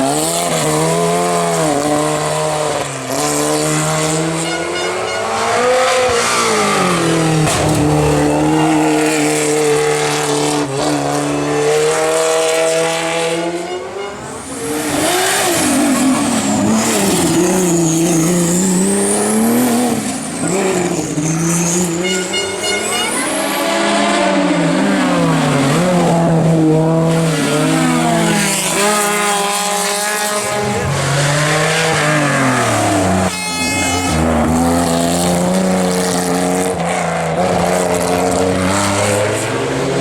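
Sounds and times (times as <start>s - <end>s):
racing car engine revving: 0.0s - 40.0s.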